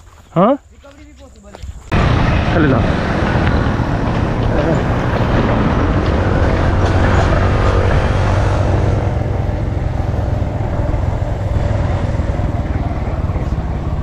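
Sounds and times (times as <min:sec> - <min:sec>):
motorcycle engine running: 0:01.9 - 0:14.0.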